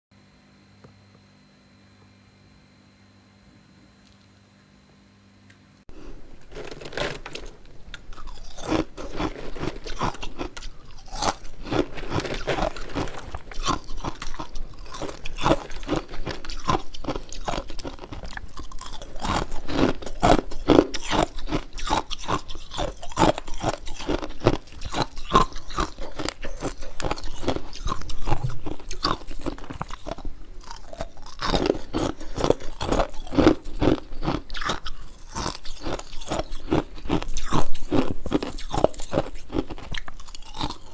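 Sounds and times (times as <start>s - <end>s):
person chewing ice: 5.9s - 40.9s.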